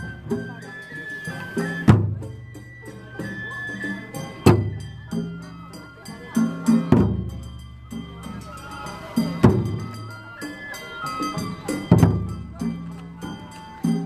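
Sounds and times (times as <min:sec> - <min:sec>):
held melody: 0:00.0 - 0:14.0
taiko drum strokes: 0:00.0 - 0:14.0.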